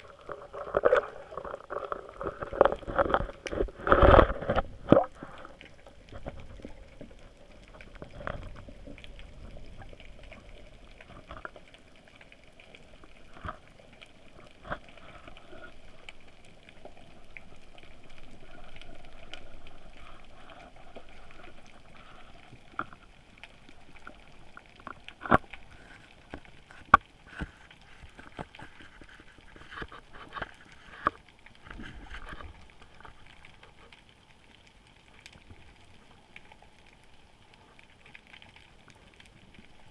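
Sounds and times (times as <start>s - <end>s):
underwater clicks and knocks: 0.0s - 11.8s, 12.7s - 33.8s
faint underwater hiss: 0.0s - 39.9s.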